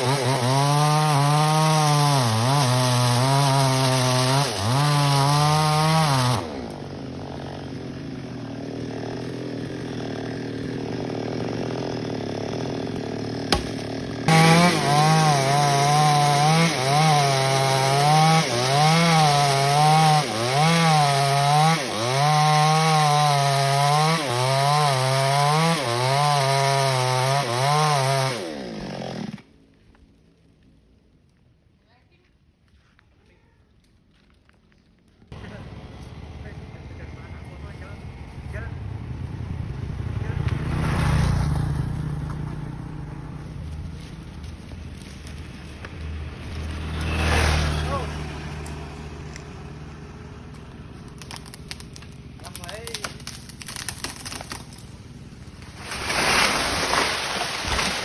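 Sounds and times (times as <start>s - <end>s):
chainsaw cutting branches: 0.0s - 29.6s, 40.5s - 58.0s.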